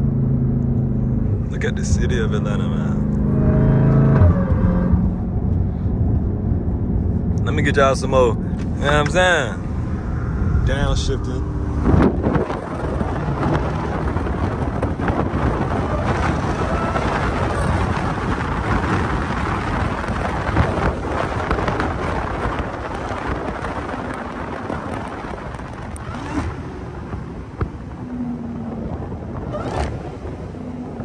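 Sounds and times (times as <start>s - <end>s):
car engine pulling hard: 0.0s - 31.0s
supercharger whine: 0.0s - 31.0s.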